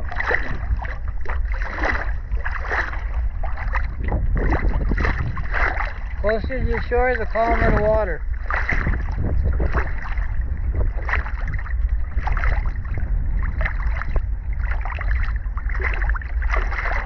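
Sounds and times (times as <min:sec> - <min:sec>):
water splashing against kayak: 0:00.0 - 0:17.0
wind buffeting microphone: 0:00.0 - 0:17.0.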